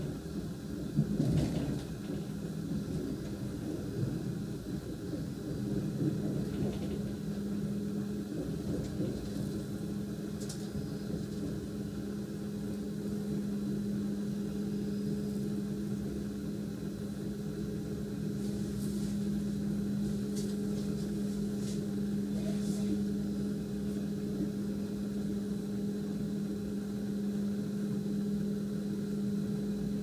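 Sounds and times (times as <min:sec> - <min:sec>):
train cabin rumble and hum: 0:00.0 - 0:30.0.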